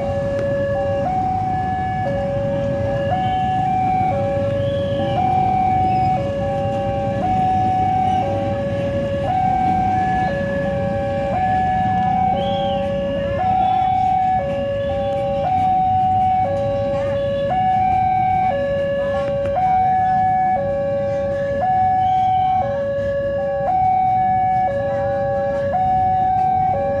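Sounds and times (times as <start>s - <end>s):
idling road traffic: 0.0s - 27.0s
level crossing two-tone alarm: 0.0s - 27.0s.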